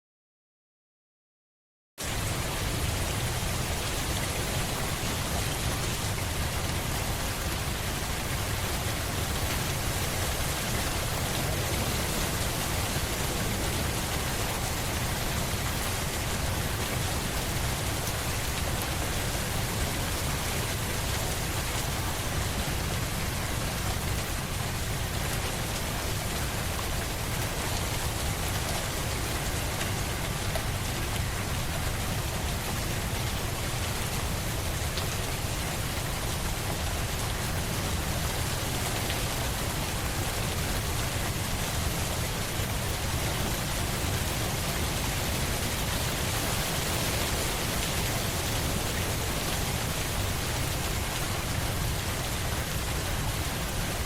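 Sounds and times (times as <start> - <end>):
steady rain falling: 2.0 - 54.0.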